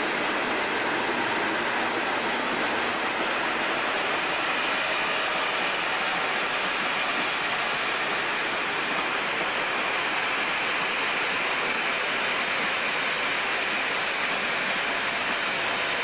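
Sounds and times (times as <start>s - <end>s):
train coaches rushing past: 0.0s - 16.0s.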